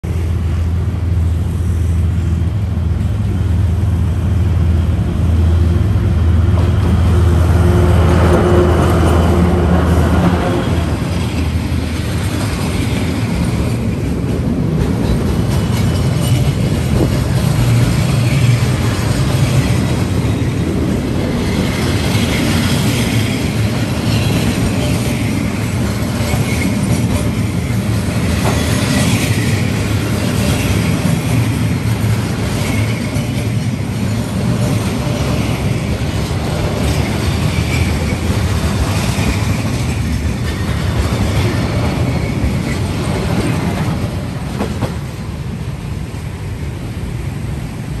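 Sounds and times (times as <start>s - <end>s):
train wheels rumbling and clattering: 0.0s - 48.0s.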